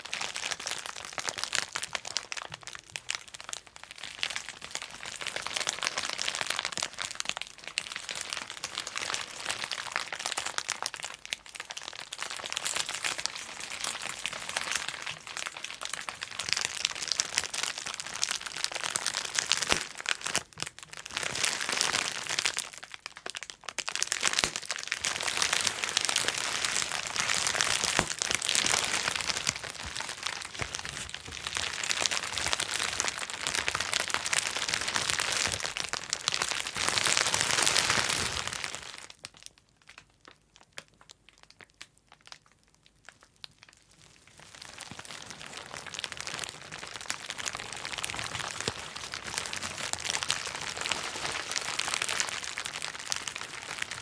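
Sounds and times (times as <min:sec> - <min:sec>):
plastic sheet crinkling: 0:00.0 - 0:39.5, 0:43.6 - 0:54.0
bubble wrap popping: 0:00.0 - 0:54.0.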